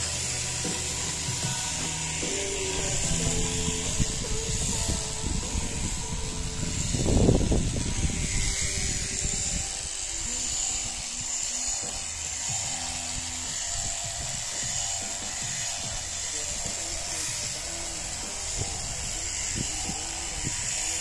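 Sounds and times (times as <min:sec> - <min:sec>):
electric shearing machine buzzing: 0:00.0 - 0:21.0
music playing: 0:00.0 - 0:21.0.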